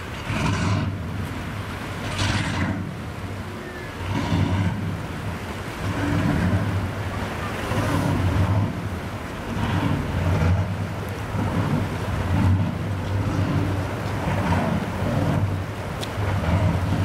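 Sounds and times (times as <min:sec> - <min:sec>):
boat engines idling: 0:00.0 - 0:17.0
lapping waves: 0:00.0 - 0:17.0
wind on microphone: 0:00.0 - 0:17.0.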